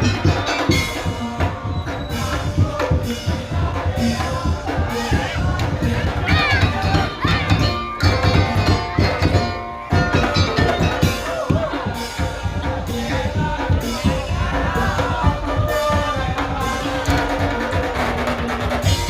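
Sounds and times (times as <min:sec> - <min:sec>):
driving drum and percussion rhythm: 0:00.0 - 0:19.0.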